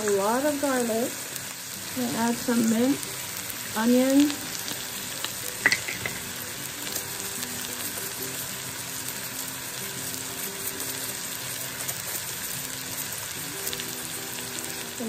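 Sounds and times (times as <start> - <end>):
onions sizzling in a frying pan: 0.0 - 15.0.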